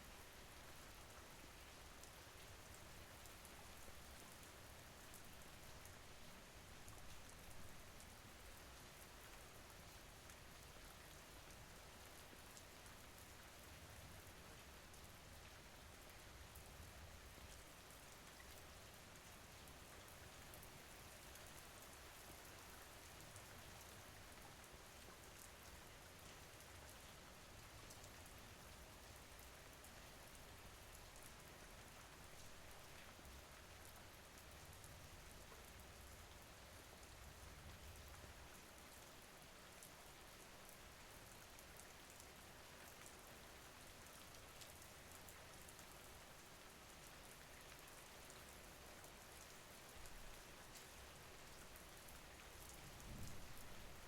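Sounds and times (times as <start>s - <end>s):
faint steady rain: 0.0s - 54.0s.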